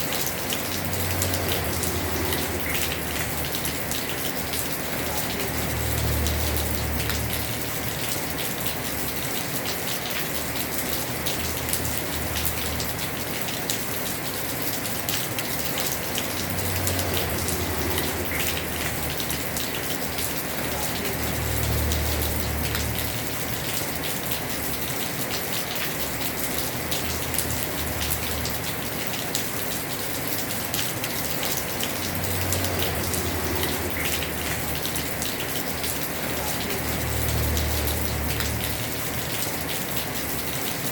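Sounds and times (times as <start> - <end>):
heavy rain drumming on roof: 0.0 - 40.9.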